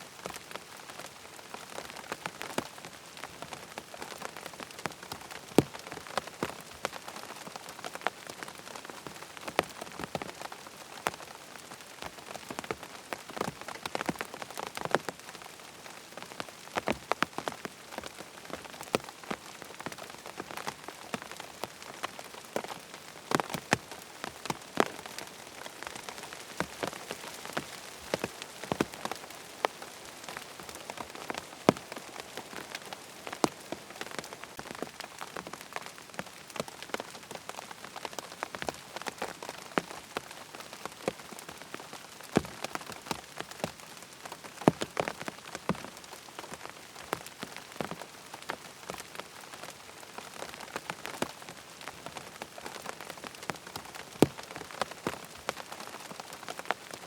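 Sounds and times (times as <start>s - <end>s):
rain falling on a tent: 0.0s - 57.0s.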